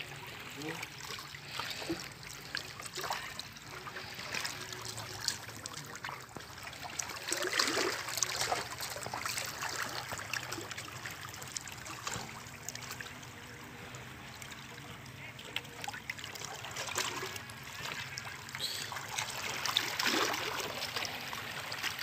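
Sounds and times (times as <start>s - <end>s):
small waves lapping on rocks: 0.1s - 22.0s.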